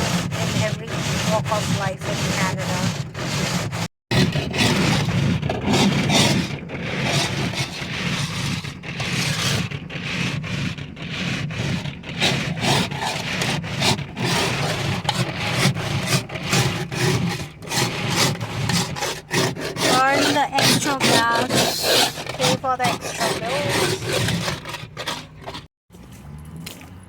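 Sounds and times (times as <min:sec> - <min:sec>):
ice scraped off by hand: 0:00.0 - 0:25.7.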